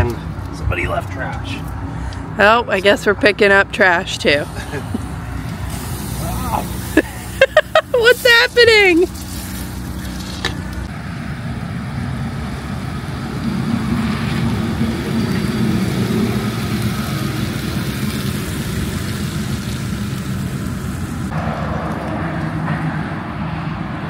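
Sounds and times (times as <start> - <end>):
van driving past: 3.5 - 24.0.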